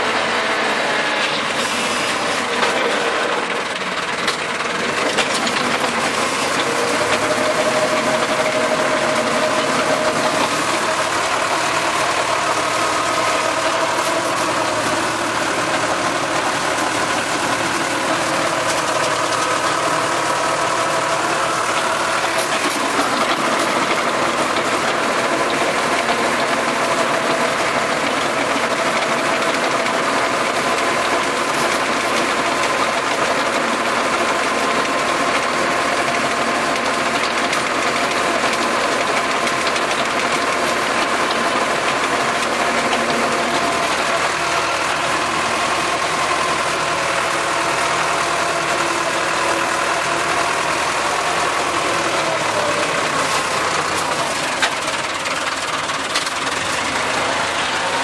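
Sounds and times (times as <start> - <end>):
rotary tiller churning soil: 0.0 - 58.0
tractor engine running: 0.0 - 58.0.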